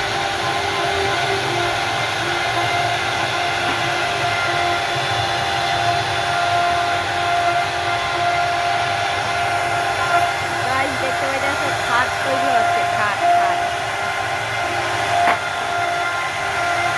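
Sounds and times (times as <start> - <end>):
cnc router hissing and whining: 0.0 - 16.9.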